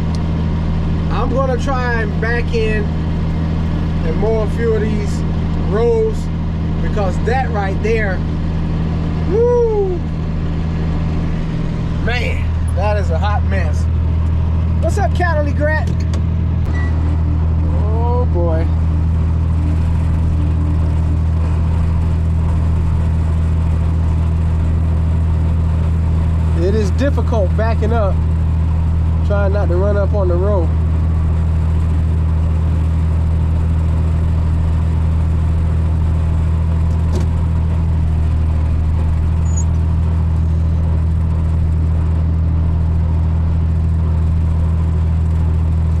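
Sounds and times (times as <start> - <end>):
tractor engine droning: 0.0 - 46.0.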